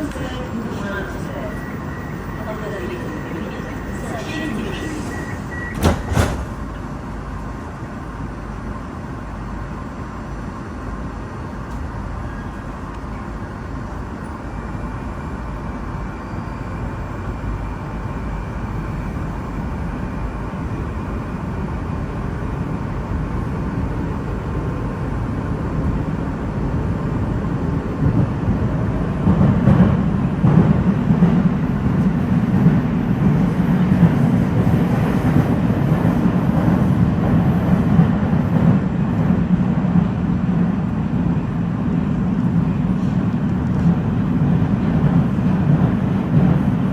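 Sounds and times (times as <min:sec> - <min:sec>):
metro train rumbling in tunnel: 0:00.0 - 0:46.9.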